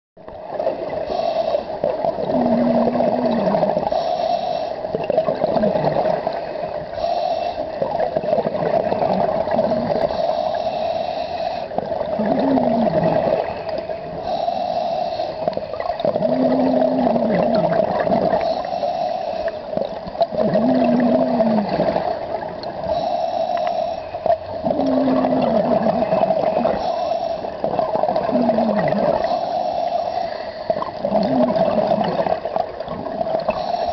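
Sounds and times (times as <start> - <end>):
bubbling exhale with low groan: 0.4 - 33.9
hissing regulator inhale: 1.0 - 2.1, 2.8 - 8.4, 9.4 - 15.8, 16.4 - 32.8, 33.4 - 33.9.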